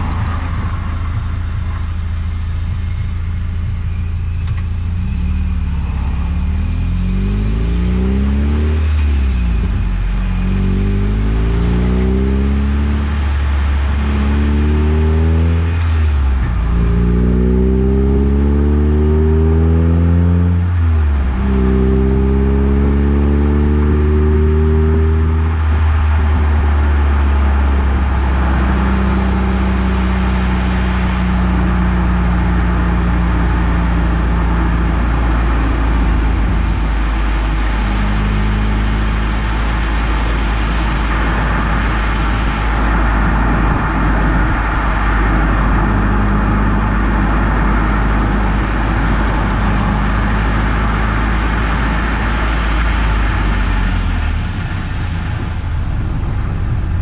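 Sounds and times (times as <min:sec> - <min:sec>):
car engine drone: 0:00.0 - 0:57.0
tyre and road noise: 0:00.0 - 0:57.0.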